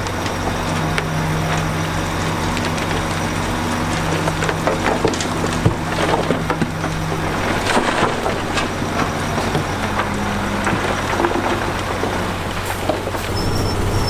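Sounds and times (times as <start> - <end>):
heavy diesel machinery running: 0.0 - 14.0
rock and dirt clatter: 0.0 - 14.0.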